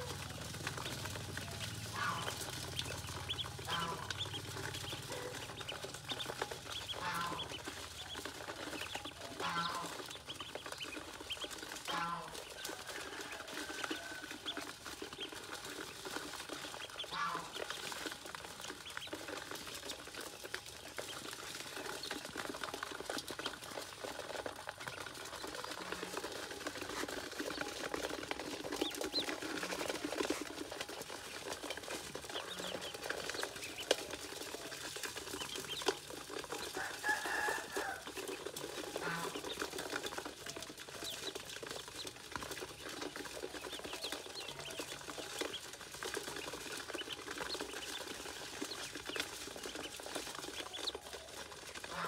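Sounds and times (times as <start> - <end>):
ducklings peeping: 0.0 - 52.0
feet scrabbling on metal basin: 0.0 - 52.0.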